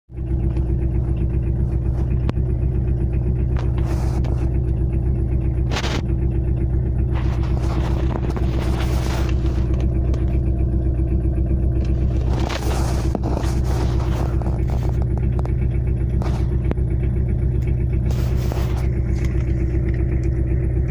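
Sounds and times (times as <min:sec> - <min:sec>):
car engine knocking: 0:00.1 - 0:20.9.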